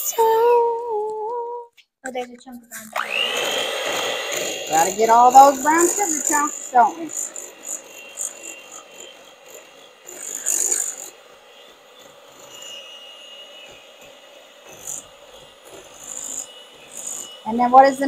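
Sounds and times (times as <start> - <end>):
beaters scraping glass bowl: 2.8 - 18.0
electric hand mixer whine: 2.8 - 18.0.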